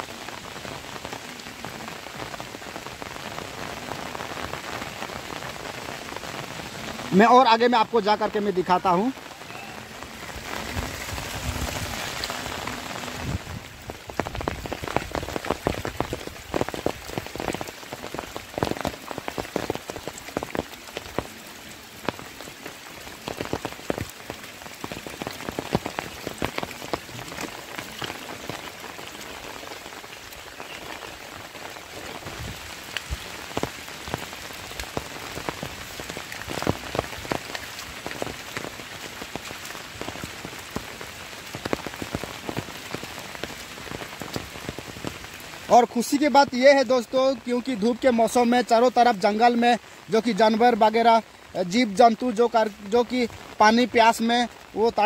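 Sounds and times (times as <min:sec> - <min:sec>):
rain on vegetation: 0:00.0 - 0:55.0
sharp raindrop hits: 0:00.0 - 0:55.0.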